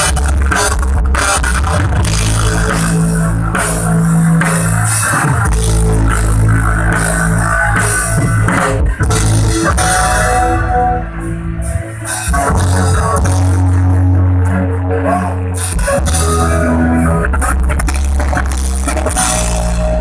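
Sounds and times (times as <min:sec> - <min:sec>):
rock band playing instrumental: 0:00.0 - 0:20.0.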